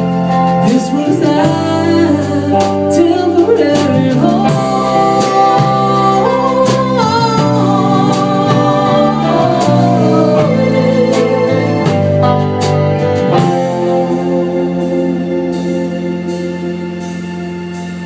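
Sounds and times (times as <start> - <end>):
live country band playing ballad: 0.0 - 18.0
sliding lead melody: 0.0 - 18.0.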